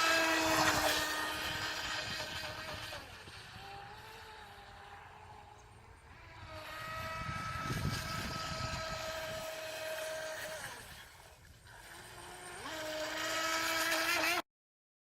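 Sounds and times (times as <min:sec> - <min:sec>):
rc boat motor whining: 0:00.0 - 0:14.4.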